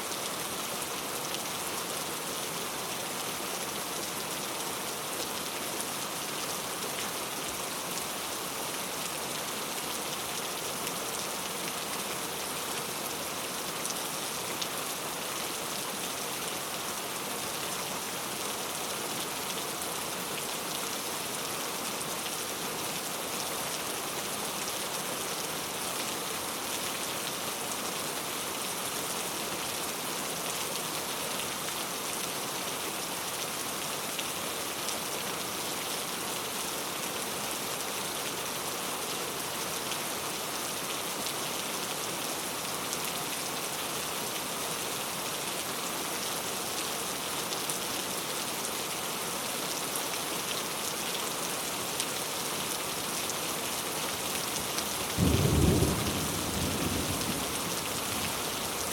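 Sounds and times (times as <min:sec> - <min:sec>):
heavy rain on leaves: 0:00.0 - 0:58.9.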